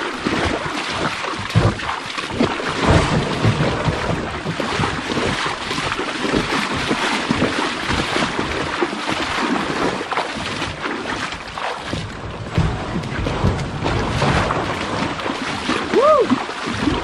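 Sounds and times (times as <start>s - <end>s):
footsteps splashing through water: 0.0s - 17.0s
water sloshing: 0.0s - 17.0s.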